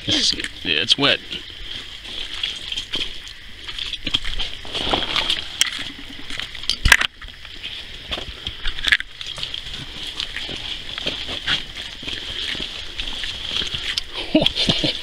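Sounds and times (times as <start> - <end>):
footsteps squelching in mud: 0.0 - 6.7, 7.3 - 15.0
forest insects droning: 0.0 - 15.0.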